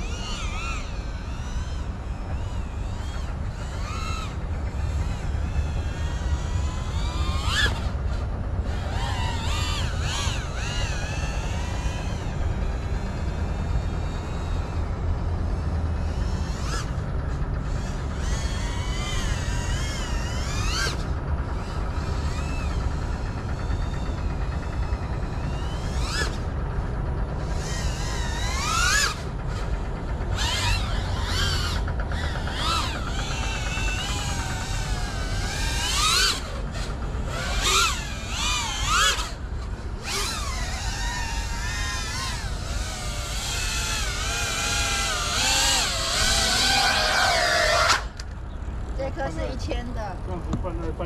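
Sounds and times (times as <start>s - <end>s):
drone motors whining: 0.0s - 51.0s.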